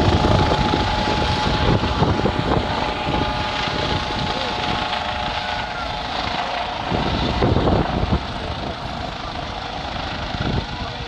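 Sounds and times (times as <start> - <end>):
helicopter rotor thudding: 0.0 - 11.0
turbine whine: 0.0 - 11.0.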